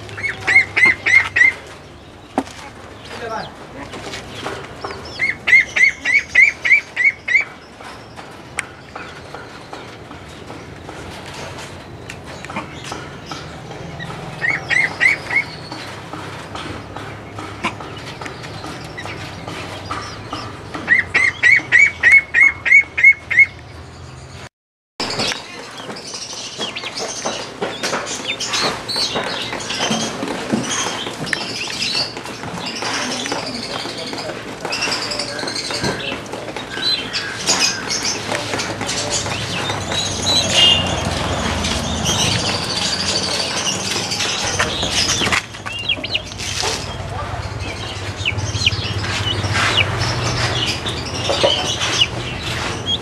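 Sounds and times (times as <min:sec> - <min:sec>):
many birds chirping: 0:00.0 - 0:53.0.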